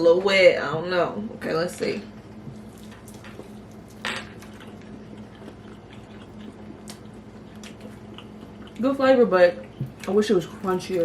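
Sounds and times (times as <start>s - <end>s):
chewing wet fried chicken: 2.1s - 11.0s.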